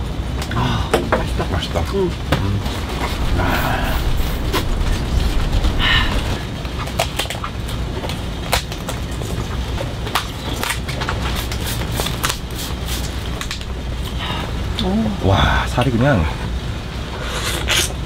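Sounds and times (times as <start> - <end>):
steady low rumble: 0.0 - 17.2.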